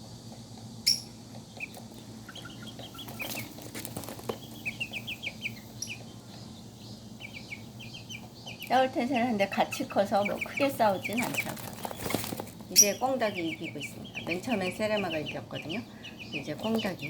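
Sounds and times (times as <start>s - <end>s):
chicks peeping: 0.0s - 17.0s
low steady hum: 0.0s - 17.0s.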